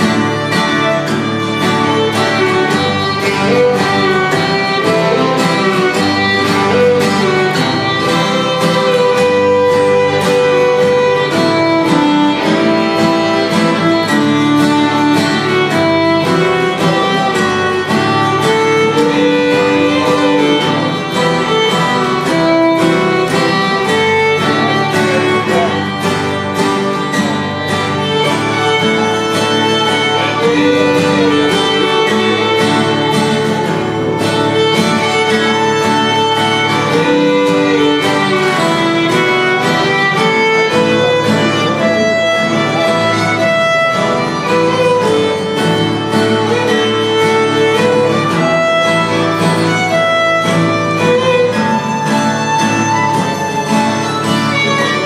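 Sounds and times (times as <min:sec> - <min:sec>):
acoustic guitars strumming: 0:00.0 - 0:55.0
fiddle tune: 0:00.0 - 0:55.0.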